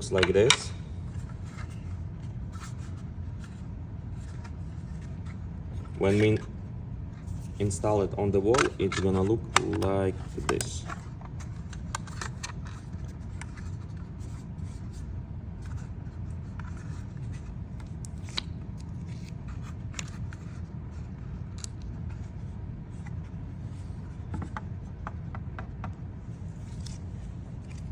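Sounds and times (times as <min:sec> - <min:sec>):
low background hum: 0:00.0 - 0:27.9.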